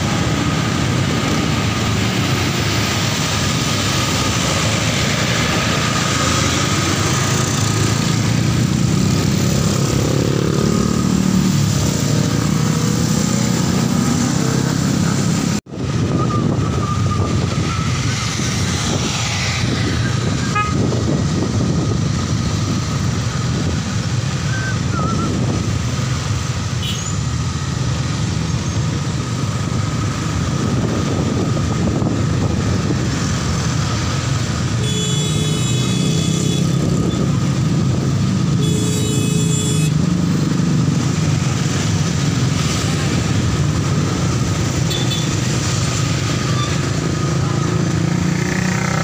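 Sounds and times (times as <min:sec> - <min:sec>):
motorcycle engines: 0:00.0 - 0:49.0
street traffic: 0:00.0 - 0:49.0.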